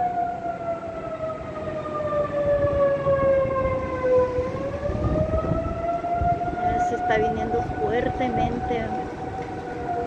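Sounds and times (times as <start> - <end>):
warning siren wailing: 0.0 - 10.0.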